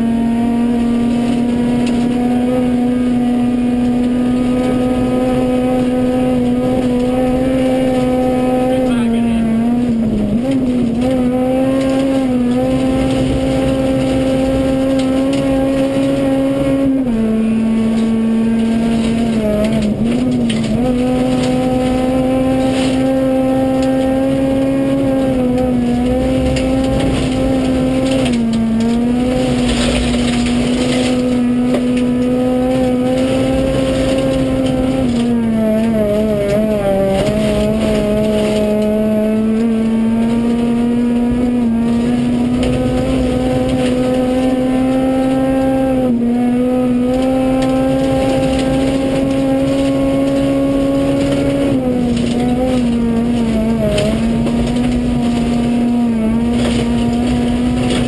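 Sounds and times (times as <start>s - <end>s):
car engine at high revs: 0.0s - 58.0s
tyre and gravel noise: 0.0s - 58.0s.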